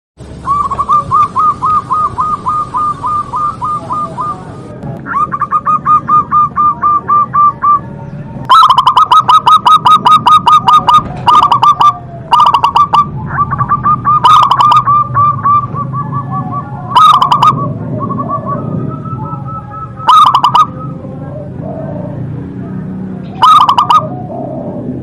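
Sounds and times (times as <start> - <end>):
dove cooing: 0.4 - 25.0.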